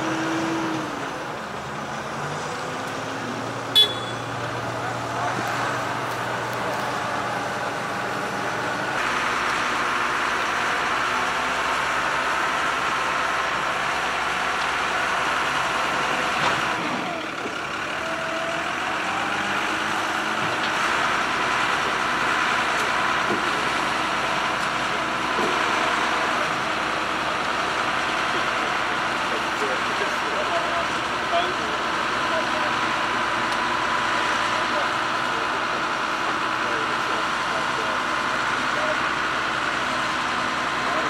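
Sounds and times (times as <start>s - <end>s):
heavy diesel machinery running: 0.0s - 41.0s.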